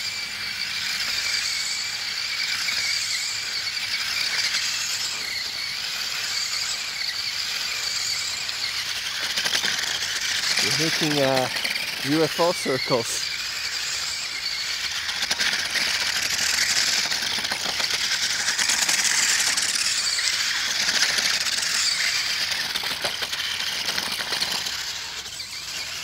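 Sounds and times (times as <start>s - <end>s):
electric motor and gears whirring: 0.0s - 26.0s.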